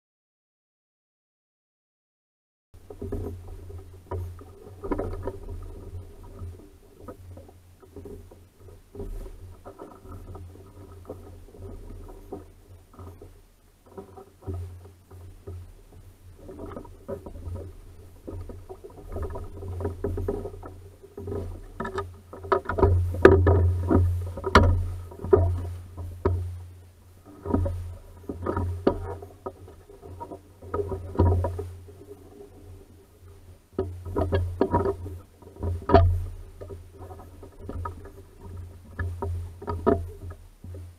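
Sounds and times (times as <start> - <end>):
water lapping against a hull: 2.8 - 40.9.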